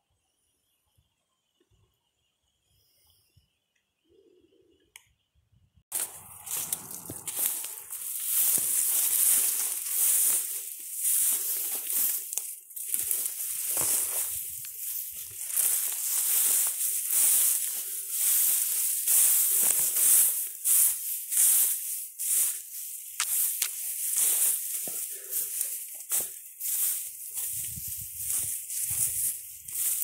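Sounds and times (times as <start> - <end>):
brush rustling against person walking: 5.9 - 30.0.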